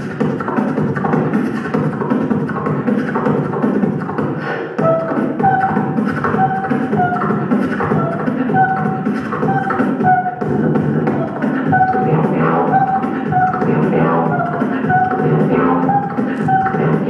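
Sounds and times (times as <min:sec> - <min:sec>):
beatboxing through microphone: 0:00.0 - 0:17.0
held vocal notes: 0:02.9 - 0:17.0.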